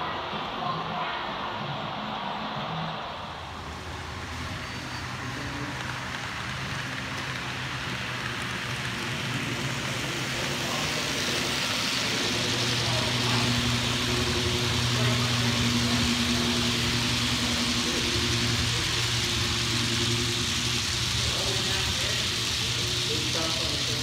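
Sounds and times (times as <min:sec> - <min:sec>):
model train wheels on rails: 0:00.0 - 0:24.0.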